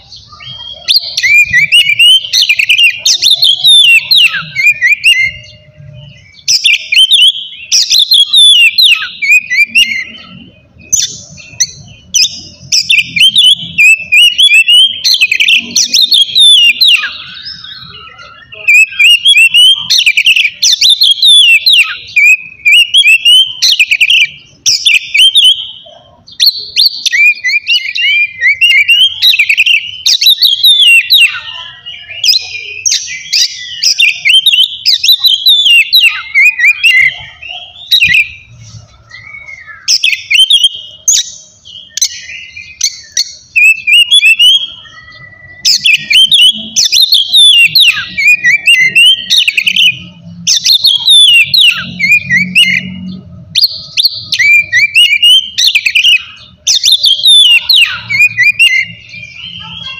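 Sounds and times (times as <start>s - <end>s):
songbird singing loudly: 0.0s - 59.9s.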